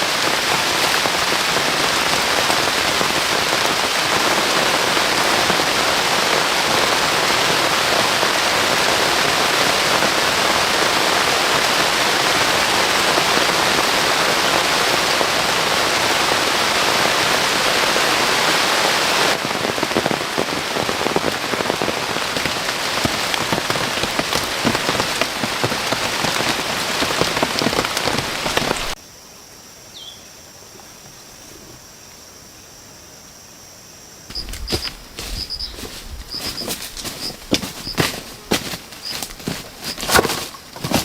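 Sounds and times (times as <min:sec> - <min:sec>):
heavy rain on foliage: 0:00.0 - 0:29.0, 0:34.3 - 0:41.0.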